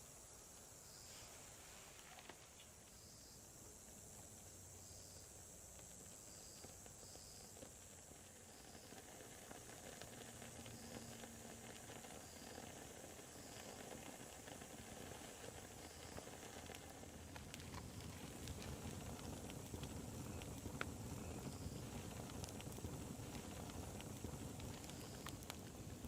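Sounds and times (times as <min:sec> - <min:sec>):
fire crackles: 0:00.0 - 0:26.0
wood fire hissing: 0:00.0 - 0:26.0.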